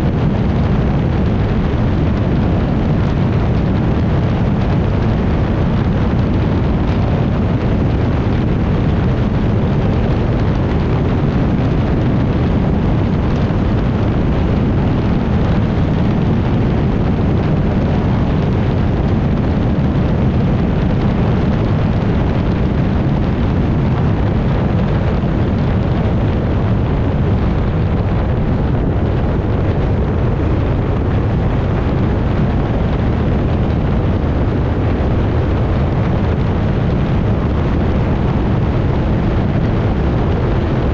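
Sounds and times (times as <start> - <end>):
outboard engine running at high speed: 0.0 - 40.9
wind buffeting microphone: 0.0 - 40.9.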